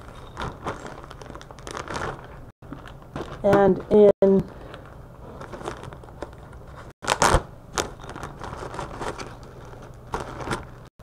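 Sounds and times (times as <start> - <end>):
wrapping crinkling: 0.0 - 3.9, 4.6 - 10.9.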